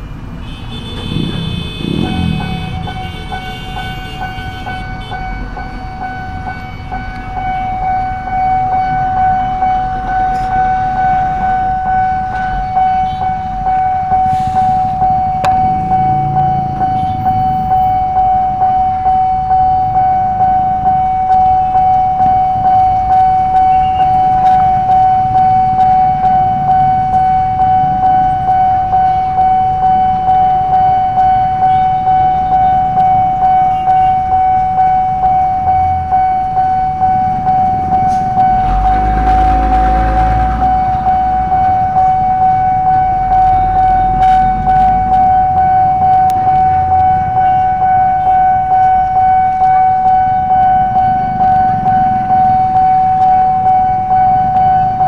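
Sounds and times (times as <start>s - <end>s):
level crossing warning alarm: 0.0s - 55.0s
truck engine rumbling: 0.0s - 55.0s.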